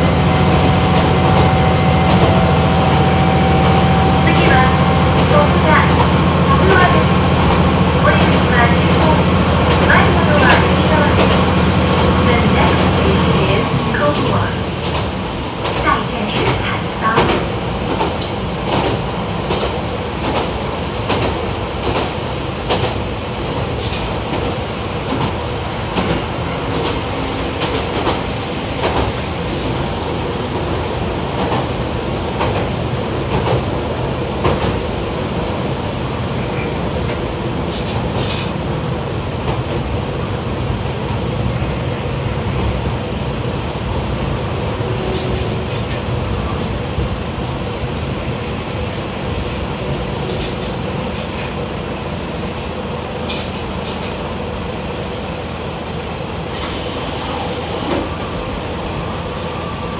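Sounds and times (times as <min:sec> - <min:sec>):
railcar engine hum: 0:00.0 - 0:59.9.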